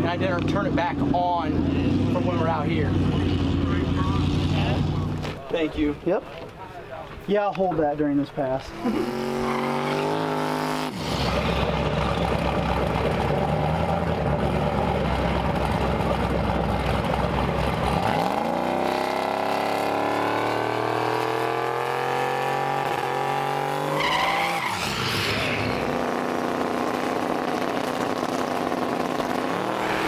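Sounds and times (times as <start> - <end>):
race engines revving: 0.0 - 5.4, 8.8 - 30.0.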